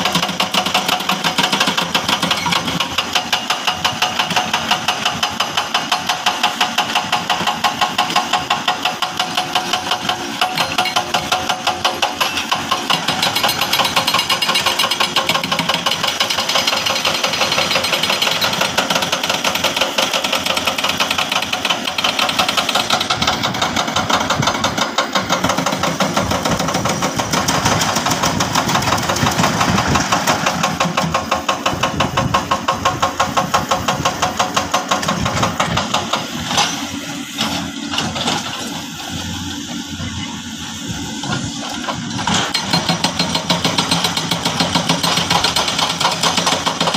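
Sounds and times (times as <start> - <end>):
heavy machinery diesel engine: 0.0 - 46.9.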